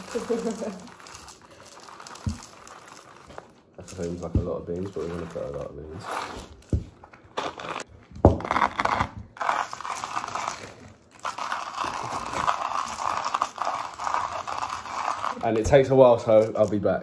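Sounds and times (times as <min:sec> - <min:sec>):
coffee grinder grinding beans: 0:00.0 - 0:17.0.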